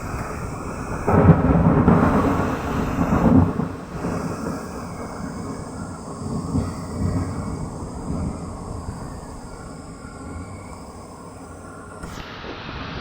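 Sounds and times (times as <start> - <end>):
strong wind: 0.0 - 12.1
thunder rumbling: 0.0 - 12.1.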